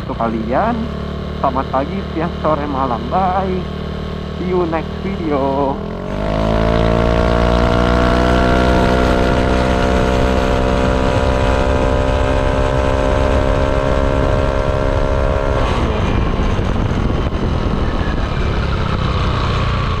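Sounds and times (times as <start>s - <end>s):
low rumble of wind: 0.0s - 20.0s
scooter engine running: 0.0s - 20.0s.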